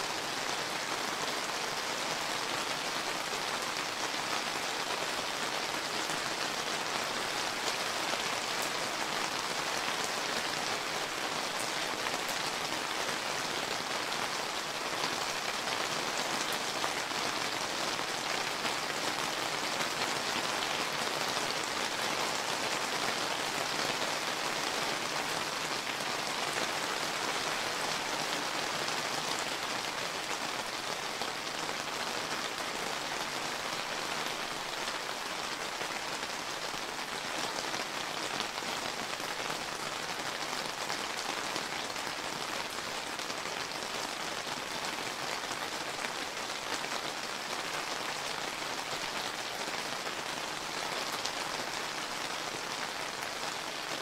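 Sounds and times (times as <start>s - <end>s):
rain pattering on surfaces: 0.1s - 54.0s.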